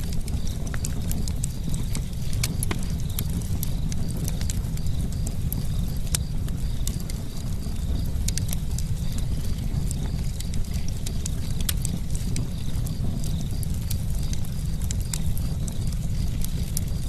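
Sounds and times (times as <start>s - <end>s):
campfire flames rumbling: 0.0s - 17.0s
crackles and pops of burning wood: 0.0s - 17.0s.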